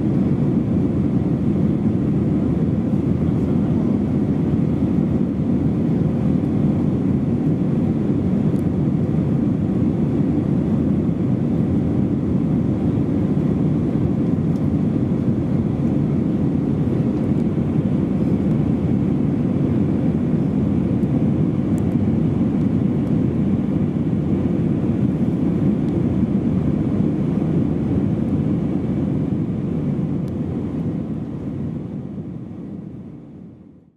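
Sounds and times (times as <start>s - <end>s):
airplane cabin roar: 0.0s - 33.9s.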